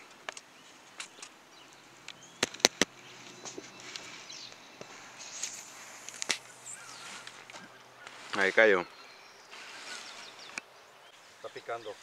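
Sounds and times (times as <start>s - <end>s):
faint bird chirps: 0.5s - 12.0s.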